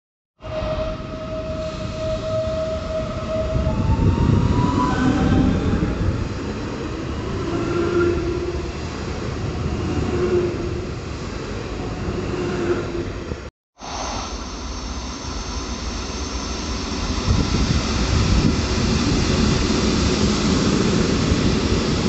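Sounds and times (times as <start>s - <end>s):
train rumbling: 0.4s - 22.0s
train whining tones: 0.4s - 22.0s.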